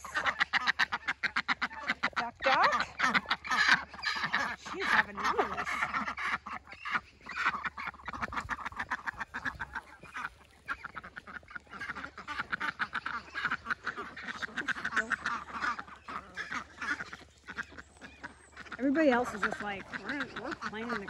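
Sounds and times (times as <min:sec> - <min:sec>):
ducks quacking rapidly: 0:00.0 - 0:21.0.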